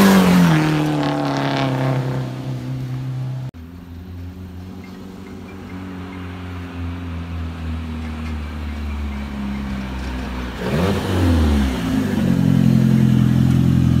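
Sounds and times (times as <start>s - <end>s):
car engine revving: 0.0s - 3.6s, 4.2s - 14.0s.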